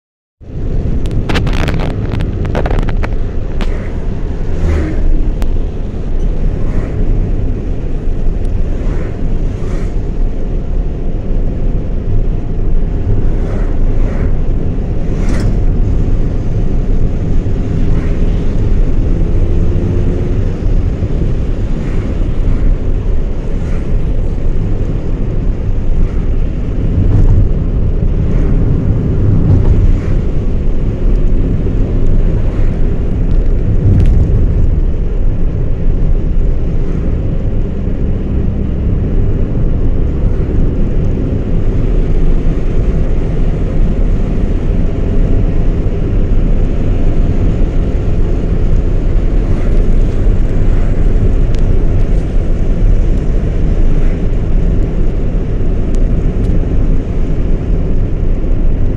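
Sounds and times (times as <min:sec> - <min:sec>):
car engine and tyre rumble: 0:00.4 - 0:58.9.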